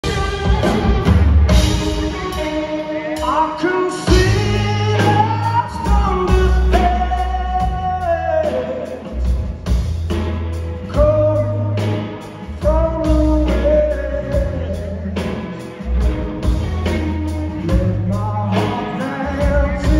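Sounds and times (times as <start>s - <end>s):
lead singer: 0.0s - 9.9s, 10.6s - 19.9s
live rock band: 0.0s - 19.9s.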